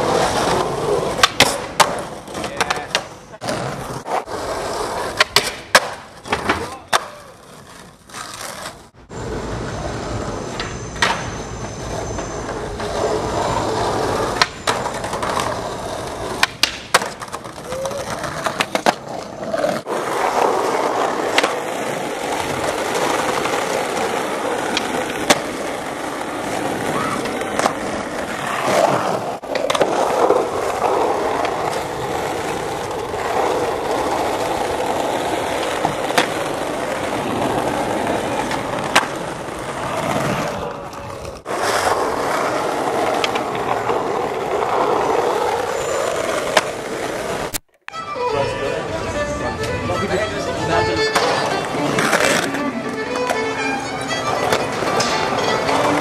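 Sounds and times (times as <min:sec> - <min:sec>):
skateboard tail popping and landing: 0:00.0 - 0:08.9, 0:13.6 - 0:48.0, 0:54.2 - 0:56.0
skateboard wheels rolling on tarmac: 0:00.0 - 0:56.0.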